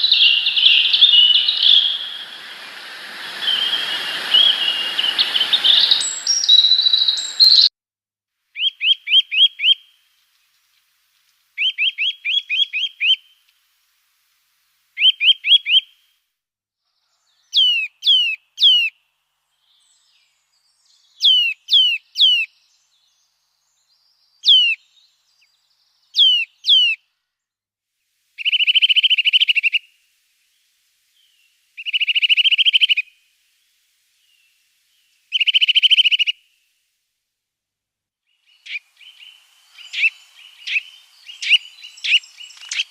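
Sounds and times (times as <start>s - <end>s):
songbird singing: 0.0s - 7.7s, 8.6s - 13.5s, 15.0s - 16.0s, 17.0s - 27.0s, 28.4s - 36.6s, 38.3s - 42.9s.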